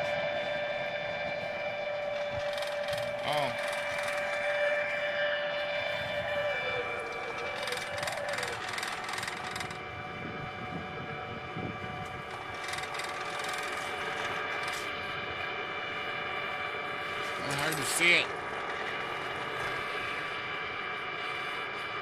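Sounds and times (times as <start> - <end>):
blower whining: 0.0 - 22.0.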